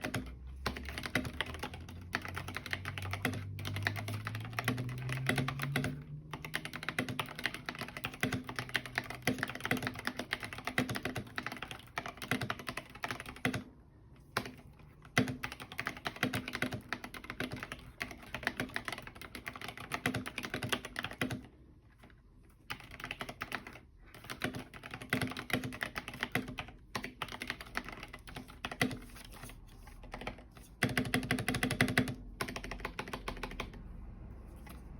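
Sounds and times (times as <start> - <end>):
mechanical keyboard typing: 0.0 - 34.0.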